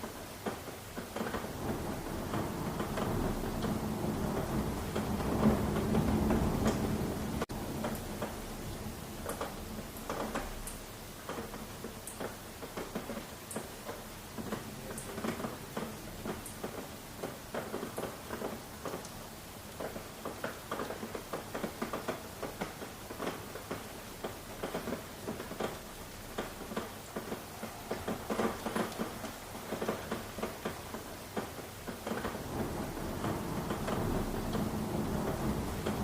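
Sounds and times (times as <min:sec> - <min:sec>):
heavy raindrops pattering: 0:00.0 - 0:36.0
rain hiss: 0:00.0 - 0:36.0.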